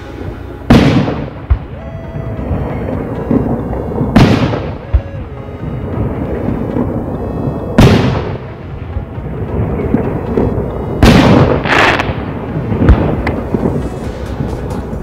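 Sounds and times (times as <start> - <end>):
firework shells booming: 0.7 - 1.7, 2.5 - 5.2, 5.8 - 14.6.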